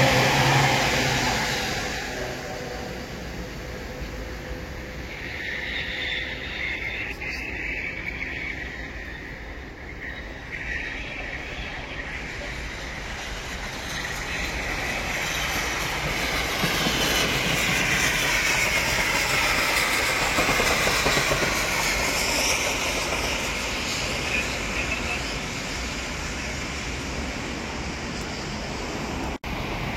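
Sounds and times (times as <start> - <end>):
train running on rails: 0.0 - 29.9.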